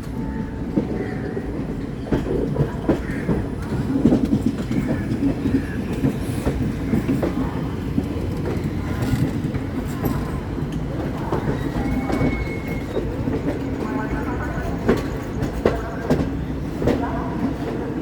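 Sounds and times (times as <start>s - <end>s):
train wheels clickety-clack: 0.0s - 18.0s.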